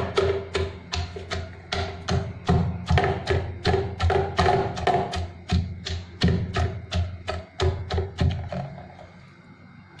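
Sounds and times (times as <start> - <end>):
wooden pestle thudding in saucepan: 0.0 - 9.0.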